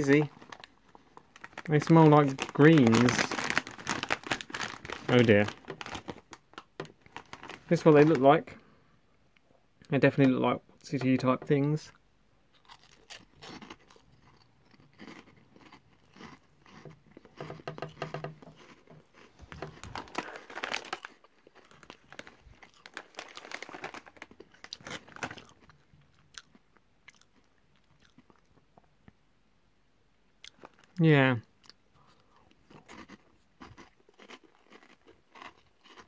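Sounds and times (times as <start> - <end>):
crunching snack sticks: 0.0 - 8.2, 12.5 - 28.6, 30.4 - 31.0, 31.6 - 36.0.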